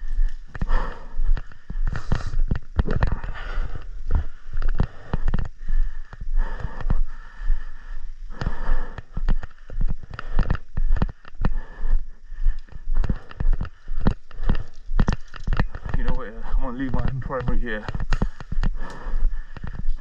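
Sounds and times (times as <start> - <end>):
footsteps walking: 0.0 - 20.0.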